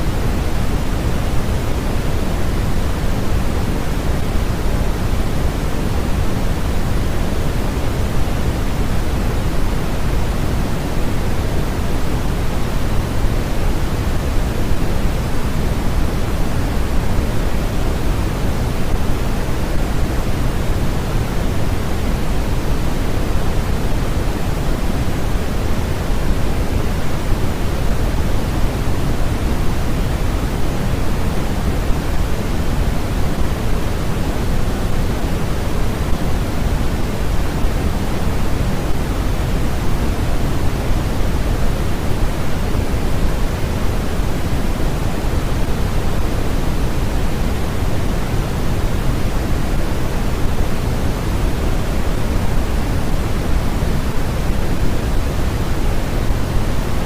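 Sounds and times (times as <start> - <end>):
steady generated noise: 0.0 - 57.0.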